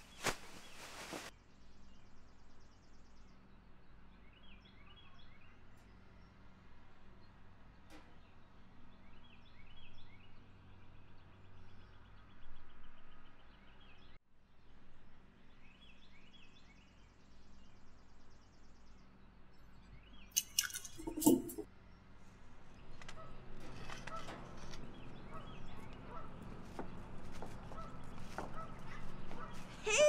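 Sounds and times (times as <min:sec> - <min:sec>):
songbirds chirping and trilling: 0:00.0 - 0:29.9.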